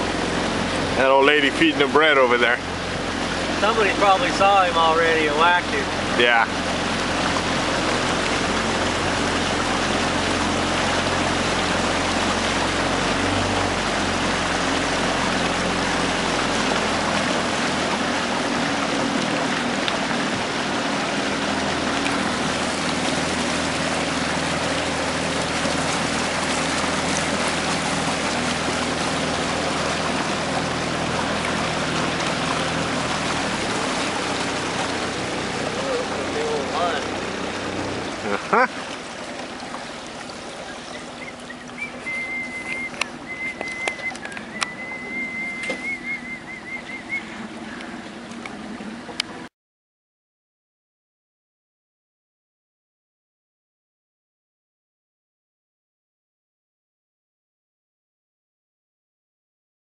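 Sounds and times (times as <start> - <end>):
boat motor running steadily: 0.0 - 49.5
rushing water and wind: 0.0 - 49.5.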